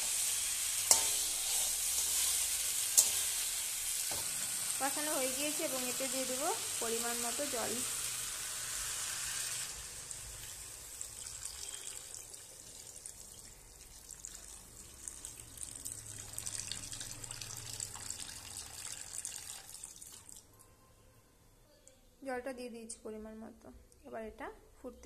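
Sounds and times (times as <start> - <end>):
water sizzling in hot pan: 0.0 - 20.4.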